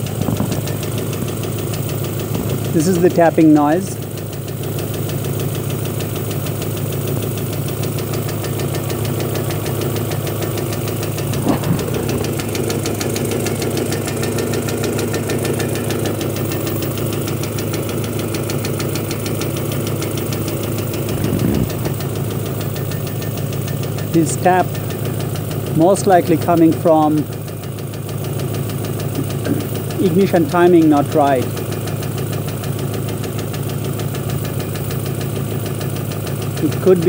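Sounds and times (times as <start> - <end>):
car engine idling: 0.0 - 37.0
rapid engine tapping: 0.0 - 37.0.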